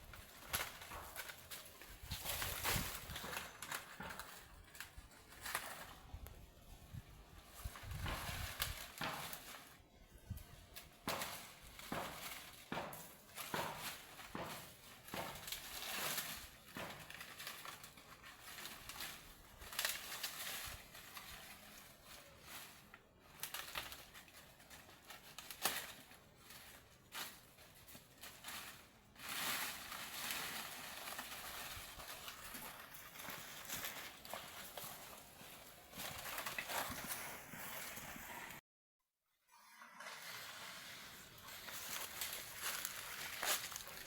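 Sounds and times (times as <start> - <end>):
dry plant material rustling: 0.0 - 38.6, 40.5 - 44.0.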